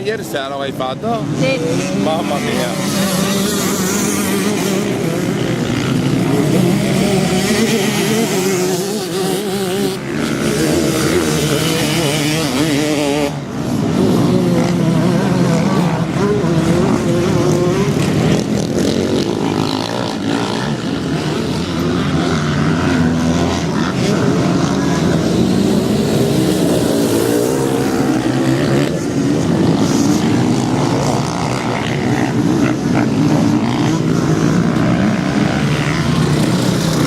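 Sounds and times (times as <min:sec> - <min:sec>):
motocross bike engine revving: 0:01.0 - 0:37.0.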